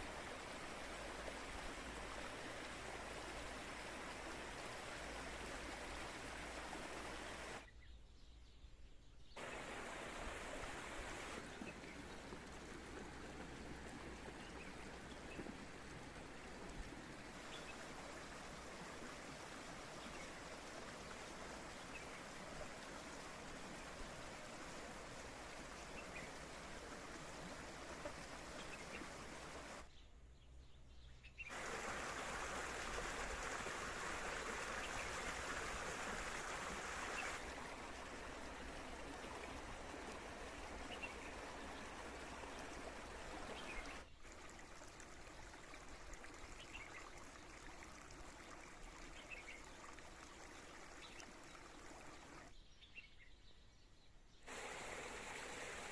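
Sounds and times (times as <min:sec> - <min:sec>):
stream water running: 0:00.0 - 0:07.8, 0:09.2 - 0:30.0, 0:31.3 - 0:53.4, 0:54.3 - 0:55.9.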